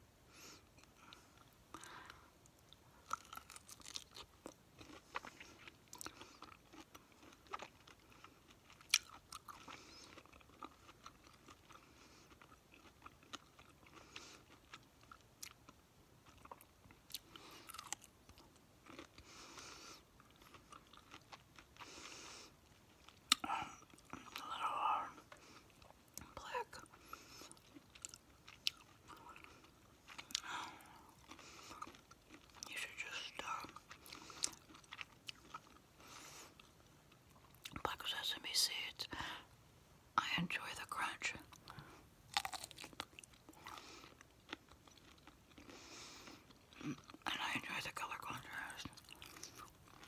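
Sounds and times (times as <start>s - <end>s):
chewing and crunching food: 0.5s - 37.8s, 41.3s - 50.0s.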